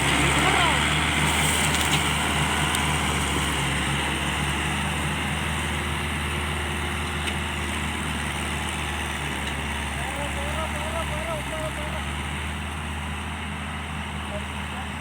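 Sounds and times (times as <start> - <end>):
diesel engine running at low revs: 0.0 - 15.0.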